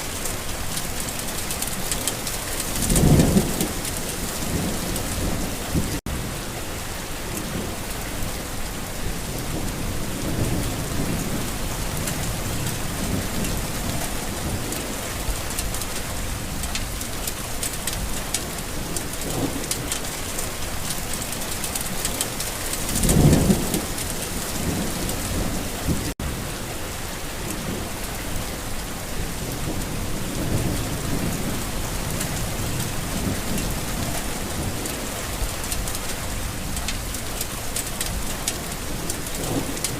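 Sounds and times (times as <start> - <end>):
thunder rumbling: 0.0 - 6.4, 7.4 - 26.6, 27.4 - 39.9
rain falling: 0.0 - 39.9.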